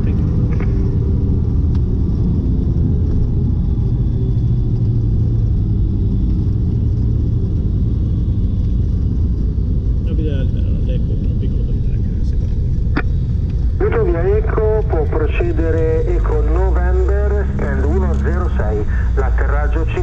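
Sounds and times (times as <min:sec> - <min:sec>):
aircraft propeller engines droning: 0:00.0 - 0:20.0.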